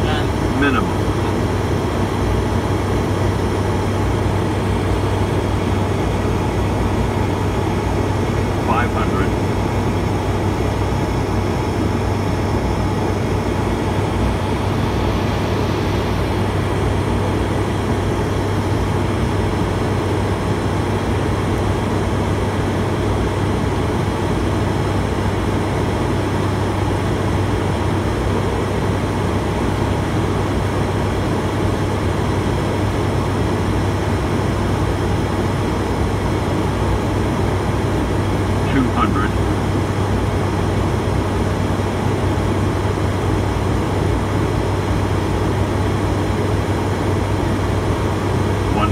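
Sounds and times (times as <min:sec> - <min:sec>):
turboprop engines droning: 0:00.0 - 0:48.9.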